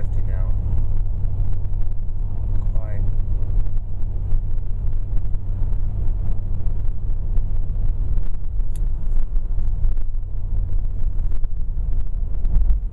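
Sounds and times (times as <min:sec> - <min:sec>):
car engine rumble inside cabin: 0:00.0 - 0:12.9
road noise: 0:00.0 - 0:12.9.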